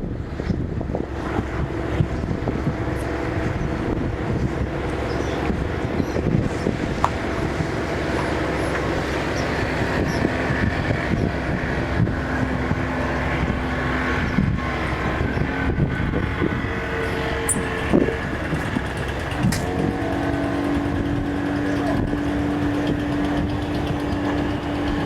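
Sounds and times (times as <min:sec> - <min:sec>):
engine running: 0:00.0 - 0:25.0
wind buffeting microphone: 0:00.0 - 0:25.0.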